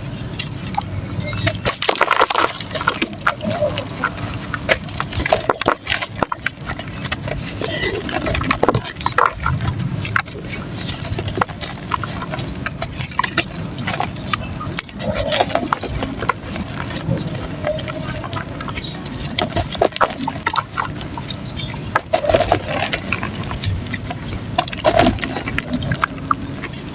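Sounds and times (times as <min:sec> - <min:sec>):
mud squishing and sloshing in water: 0:00.0 - 0:26.9.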